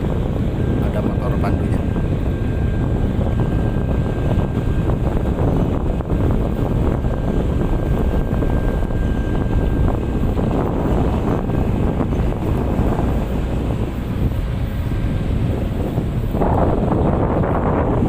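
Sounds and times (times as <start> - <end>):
boat engines rumbling: 0.0 - 18.0
wind buffeting microphone: 0.0 - 18.0.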